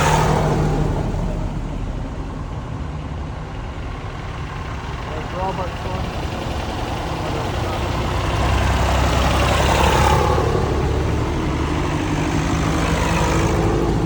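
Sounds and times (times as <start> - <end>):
tractor engine passing: 0.0 - 14.0.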